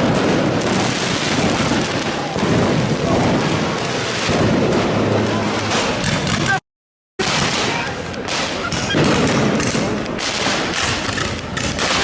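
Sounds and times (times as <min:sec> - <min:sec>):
fireworks rumbling and crackling: 0:00.0 - 0:06.6, 0:07.2 - 0:12.0.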